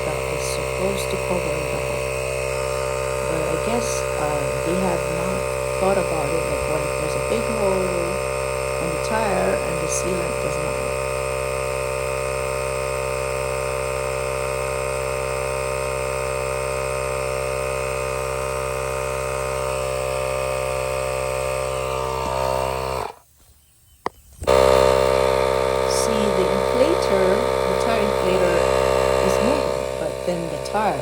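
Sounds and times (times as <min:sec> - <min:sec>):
tire inflator compressor humming: 0:00.0 - 0:31.0.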